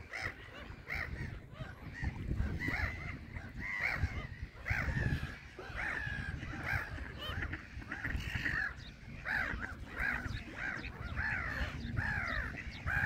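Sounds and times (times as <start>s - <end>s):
gulls and ducks calling: 0.0s - 13.0s.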